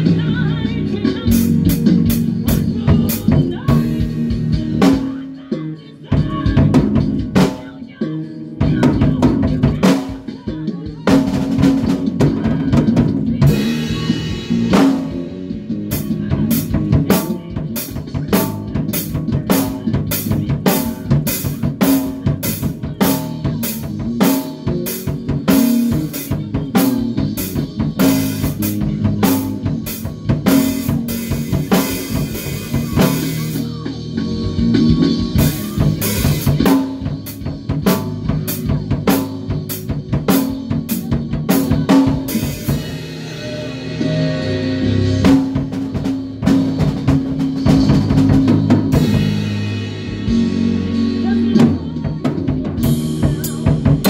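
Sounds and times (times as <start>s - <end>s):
low bass notes: 0.0s - 5.2s, 11.1s - 54.0s
drum kit beat: 0.0s - 54.0s.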